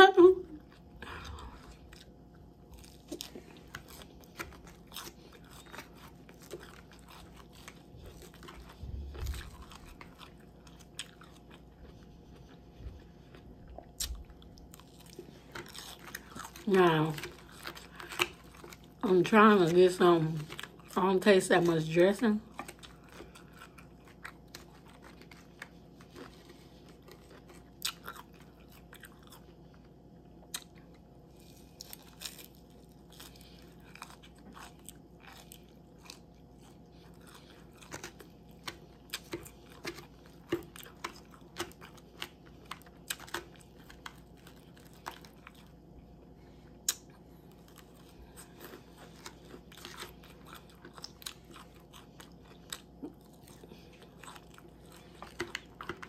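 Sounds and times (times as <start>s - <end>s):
person chewing crunchy salad: 0.6s - 56.0s.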